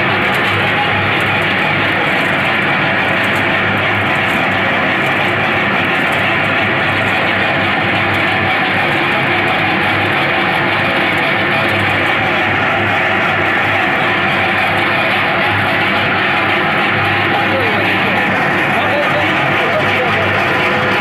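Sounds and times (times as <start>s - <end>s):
pellet mill mechanical drone: 0.0s - 21.0s.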